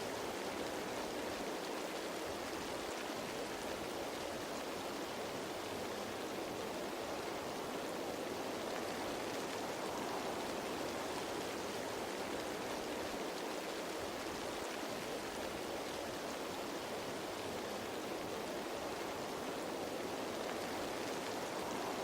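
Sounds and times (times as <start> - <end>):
rain falling on leaves: 0.0 - 22.0.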